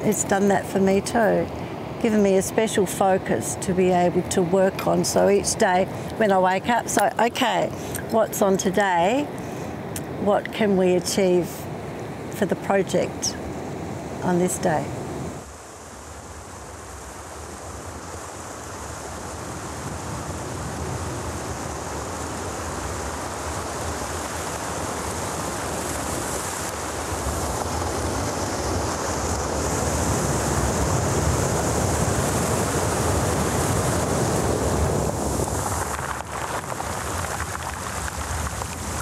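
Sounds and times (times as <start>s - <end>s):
surf washing over shore: 0.0s - 39.0s
wind: 0.0s - 39.0s.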